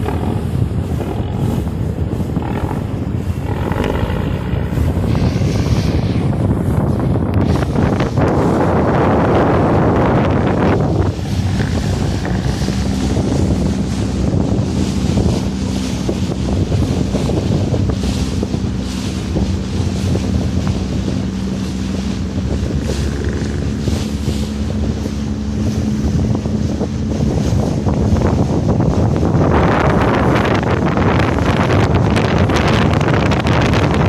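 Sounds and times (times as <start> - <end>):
boat engine running: 0.0 - 34.0
water splashing against hull: 0.0 - 34.0
wind buffeting microphone: 0.0 - 34.0.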